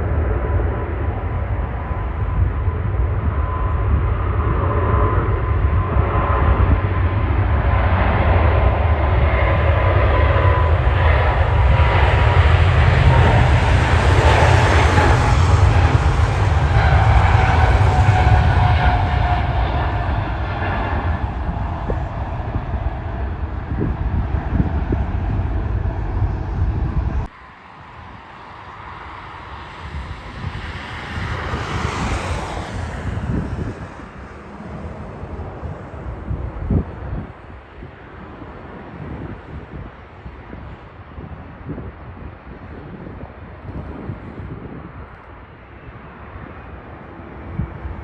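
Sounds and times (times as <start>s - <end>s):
jet engines rumbling: 0.0s - 48.0s
wind buffeting microphone: 0.0s - 48.0s.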